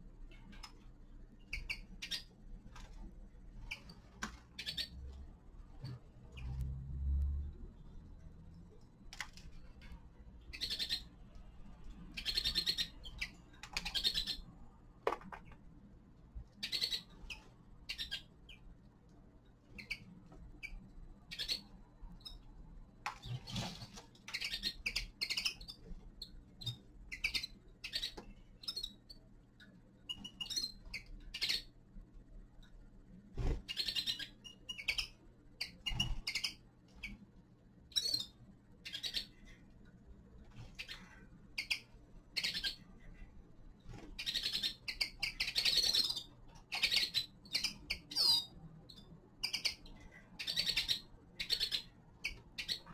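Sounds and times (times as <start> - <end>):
faint low hum: 0.0 - 52.9
finches chirping and trilling: 0.3 - 6.7, 9.0 - 14.7, 16.4 - 18.8, 19.4 - 31.9, 33.0 - 39.8, 40.4 - 52.9.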